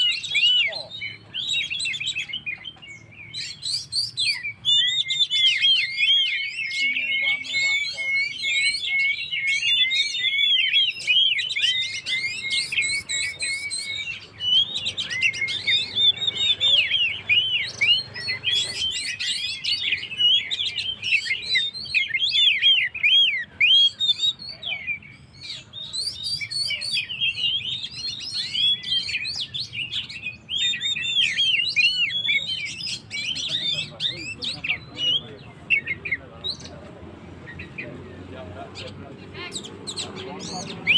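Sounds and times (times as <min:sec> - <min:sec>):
bird singing chirps and whistles: 0:00.0 - 0:36.7, 0:38.8 - 0:40.9.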